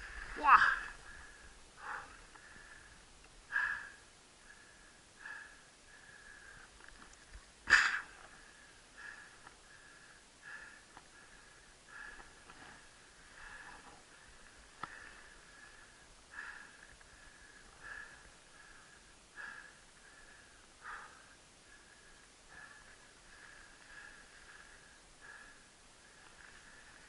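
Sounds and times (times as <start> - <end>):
person breathing hard: 0.0 - 7.0, 7.7 - 27.0.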